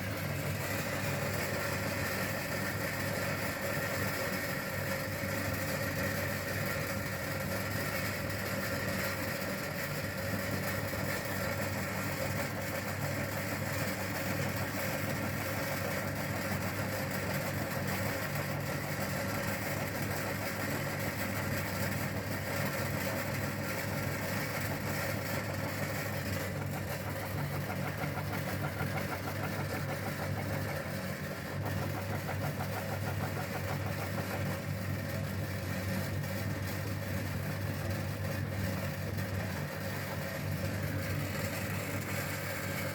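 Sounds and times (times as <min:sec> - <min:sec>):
meat grinder motor humming: 0:00.0 - 0:42.9.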